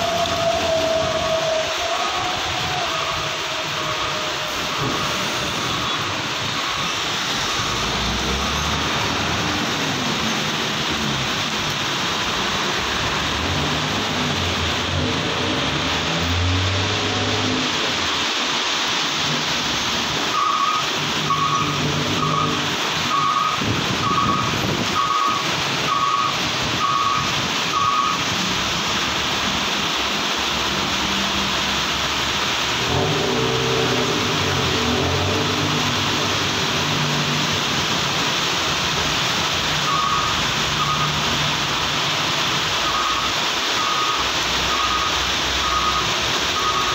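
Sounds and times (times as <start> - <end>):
rain patter: 0.0 - 46.9
trucks driving past: 0.0 - 46.9
tyres hissing on wet road: 0.0 - 46.9.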